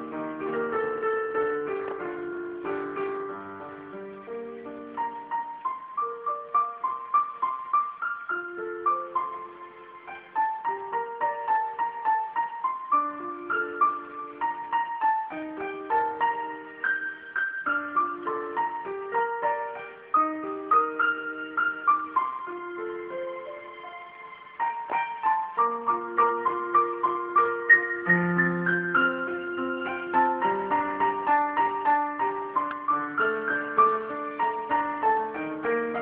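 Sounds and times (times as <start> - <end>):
keyboard playing piano melody: 0.0 - 36.0.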